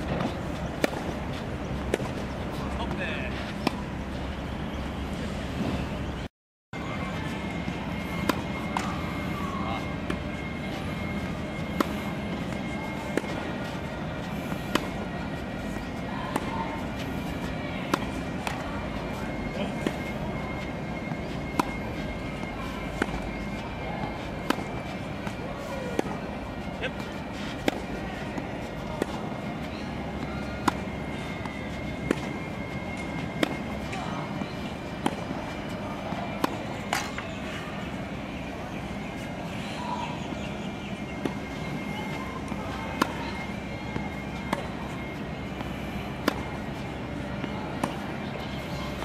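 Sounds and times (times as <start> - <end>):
tennis balls struck by rackets: 0.0 - 4.1, 7.4 - 38.1, 40.9 - 49.0.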